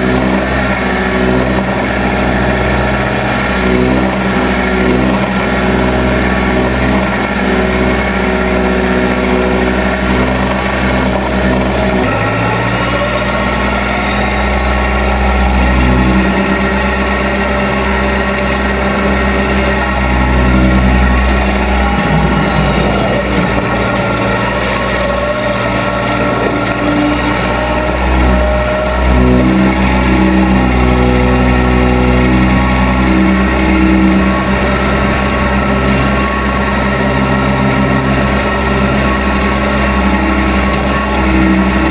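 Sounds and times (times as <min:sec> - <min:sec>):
backhoe engine running: 0:00.0 - 0:41.9.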